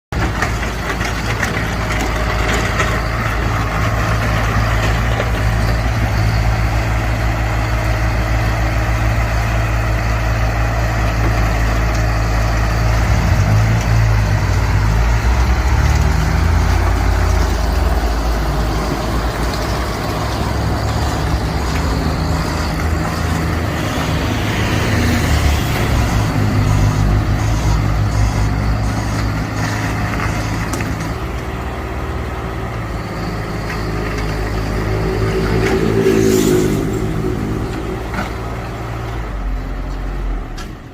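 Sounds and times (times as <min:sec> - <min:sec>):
heavy vehicle engine running: 0:00.1 - 0:40.9.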